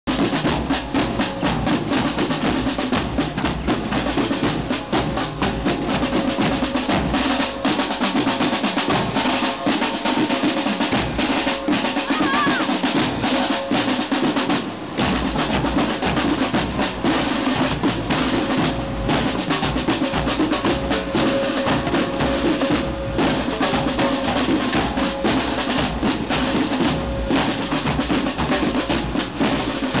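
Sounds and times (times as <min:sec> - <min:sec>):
marching band drumline: 0:00.1 - 0:30.0.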